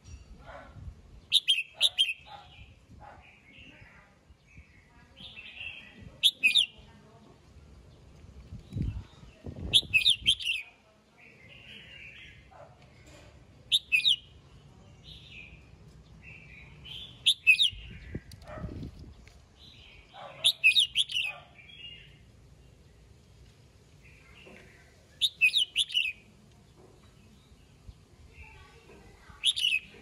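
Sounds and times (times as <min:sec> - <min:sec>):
bird singing warbled phrases: 0:01.1 - 0:12.8, 0:13.6 - 0:23.0, 0:24.0 - 0:30.0.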